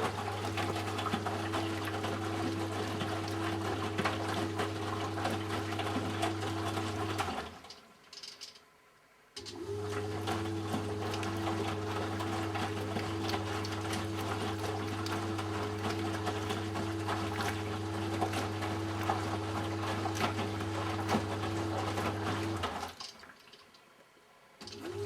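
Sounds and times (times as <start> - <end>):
water churning: 0.0 - 7.7, 9.7 - 23.7
drain pump humming: 0.0 - 7.8, 9.4 - 23.9, 24.6 - 25.0.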